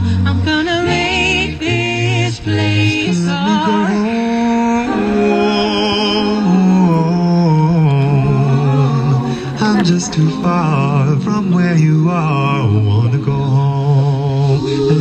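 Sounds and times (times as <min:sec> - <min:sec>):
musical accompaniment: 0:00.0 - 0:15.0
person singing long wavering notes: 0:00.0 - 0:15.0.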